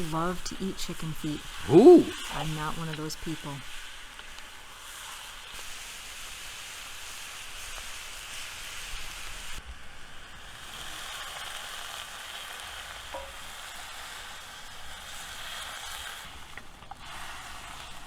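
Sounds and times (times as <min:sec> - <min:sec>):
chicken sizzling in a wok: 0:00.0 - 0:18.0.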